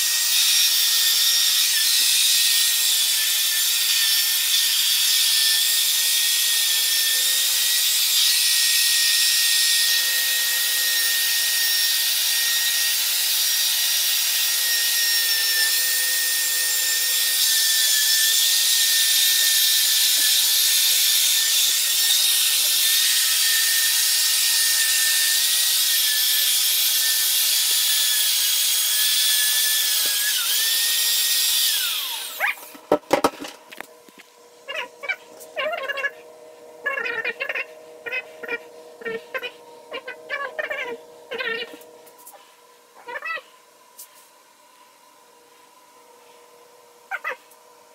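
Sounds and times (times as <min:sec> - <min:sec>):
electric drill motor whine: 0:00.0 - 0:43.0.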